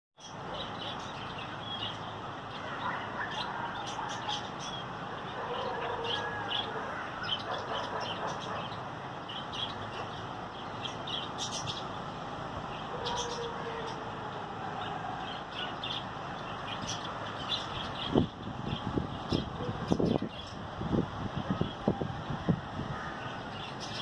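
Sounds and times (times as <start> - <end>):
birds chirping: 0.2 - 24.0
outdoor background hum: 0.2 - 24.0.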